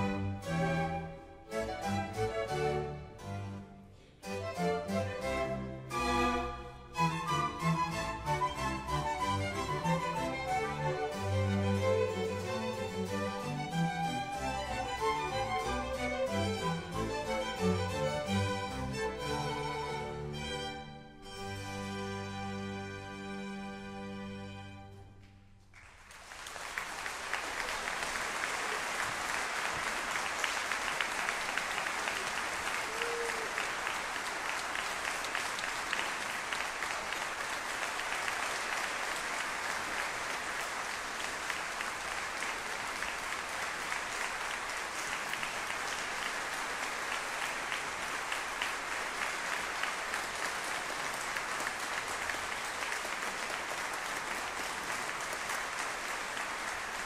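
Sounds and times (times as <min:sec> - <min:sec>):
audience applause: 0:06.1 - 0:20.7, 0:25.7 - 0:57.0.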